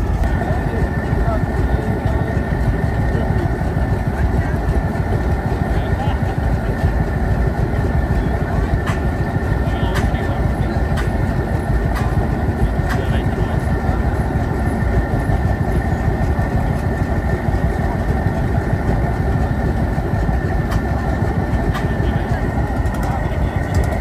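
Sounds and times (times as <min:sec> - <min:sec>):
tractor engine rumbling: 0:00.0 - 0:24.0.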